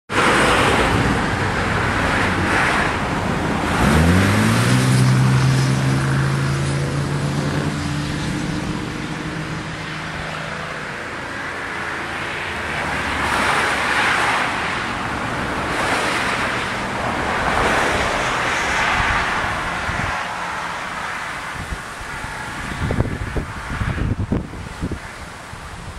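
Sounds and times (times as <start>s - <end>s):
vehicle engine rising: 0.1s - 25.0s
road traffic passing: 0.1s - 25.9s.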